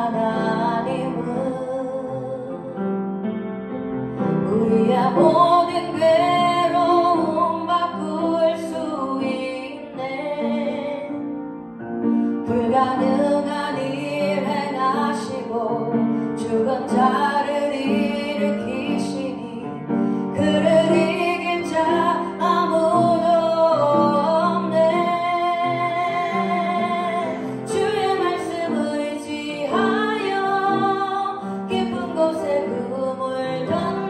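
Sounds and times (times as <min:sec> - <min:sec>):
woman singing into microphone: 0:00.0 - 0:02.8, 0:04.5 - 0:11.1, 0:12.5 - 0:34.0.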